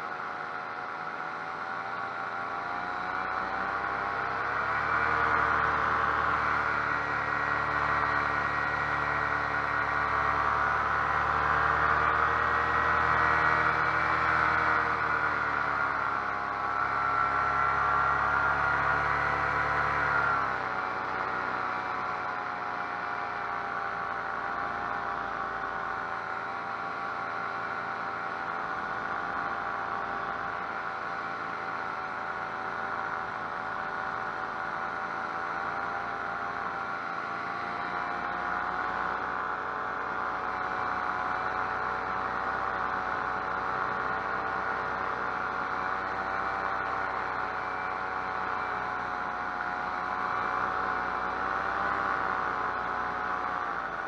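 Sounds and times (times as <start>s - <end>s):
paramotor engine droning: 0.0s - 54.0s.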